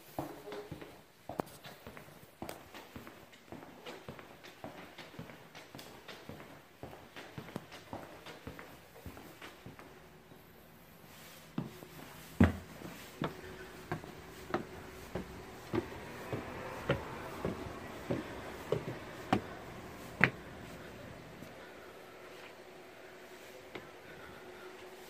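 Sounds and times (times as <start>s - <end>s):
footsteps on concrete stairs: 0.0s - 10.1s, 11.1s - 21.7s, 23.4s - 25.0s.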